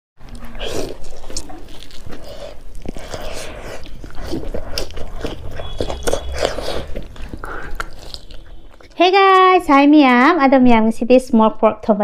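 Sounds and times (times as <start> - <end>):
biting and chewing food: 0.2 - 10.3.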